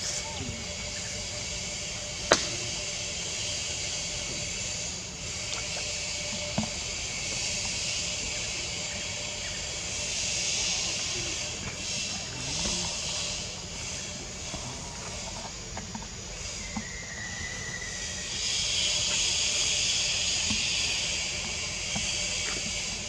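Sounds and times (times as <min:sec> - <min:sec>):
insect chorus hiss: 0:00.0 - 0:23.0.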